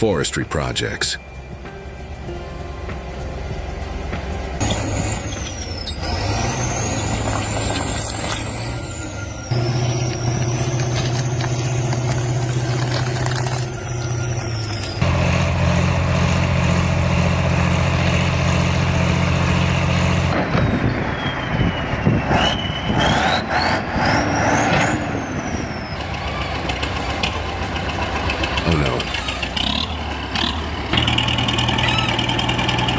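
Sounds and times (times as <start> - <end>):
heavy machinery engine running: 0.0 - 32.9.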